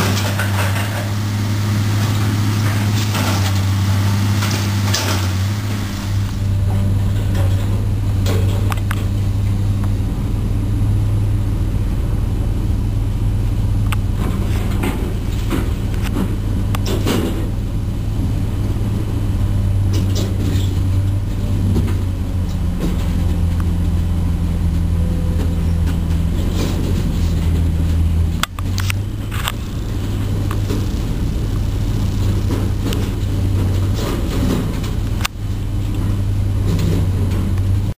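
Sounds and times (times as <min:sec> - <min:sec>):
metal clanks and knocks: 0:00.0 - 0:10.0, 0:13.8 - 0:17.6, 0:19.8 - 0:37.7
heavy diesel engine running: 0:00.0 - 0:37.9.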